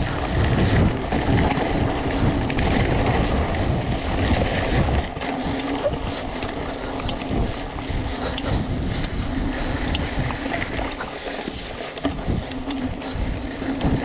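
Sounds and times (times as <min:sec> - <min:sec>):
bike clicks and rattles: 0:00.0 - 0:14.0
wind buffeting microphone: 0:00.0 - 0:14.0.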